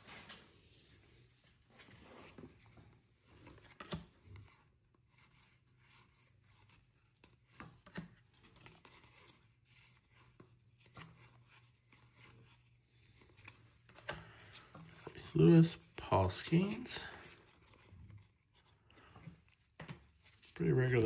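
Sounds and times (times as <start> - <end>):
trading cards flipped by hand: 1.7 - 21.0.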